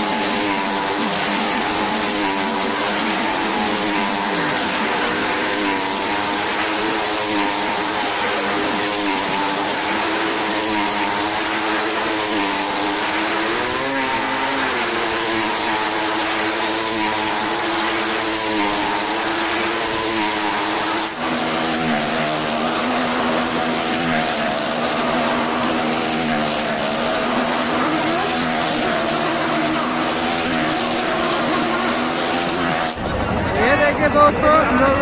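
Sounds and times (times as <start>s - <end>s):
car engine running at high revs: 0.0s - 35.0s
motorcycle engines revving: 0.0s - 35.0s.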